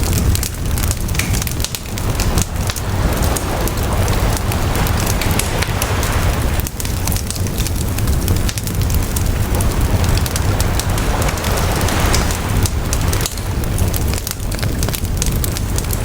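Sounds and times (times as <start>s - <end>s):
campfire crackling and popping: 0.0s - 16.0s
sea waves washing on shore: 0.0s - 16.0s.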